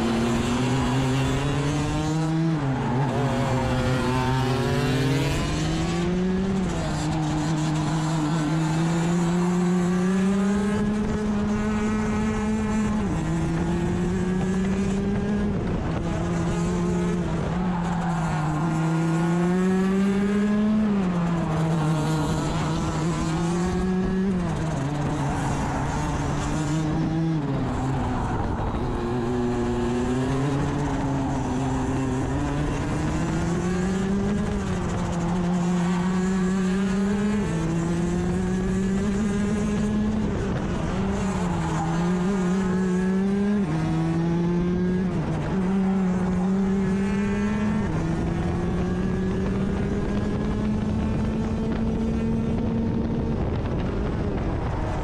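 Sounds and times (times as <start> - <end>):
racing kart engine: 0.0 - 55.0.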